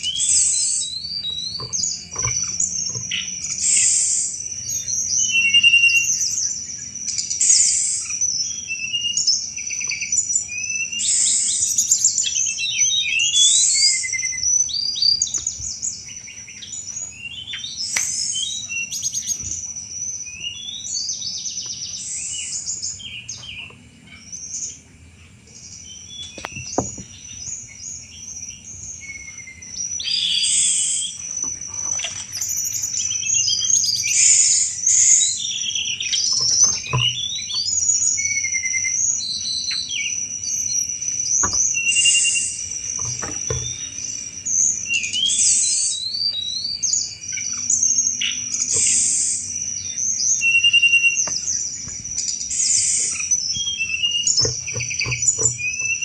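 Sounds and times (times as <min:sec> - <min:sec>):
songbird chirping and rattling: 0:00.0 - 0:56.0.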